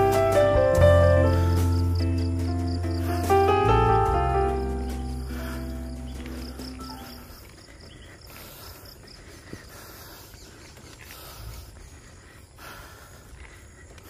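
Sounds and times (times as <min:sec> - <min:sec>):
insects calling faintly: 0:00.9 - 0:14.0.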